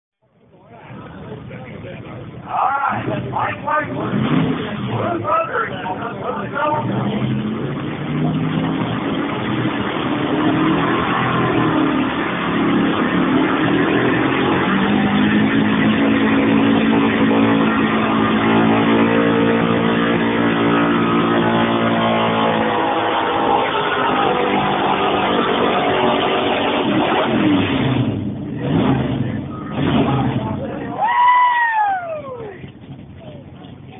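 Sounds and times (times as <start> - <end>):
truck engine revving hard: 2.5 - 32.8.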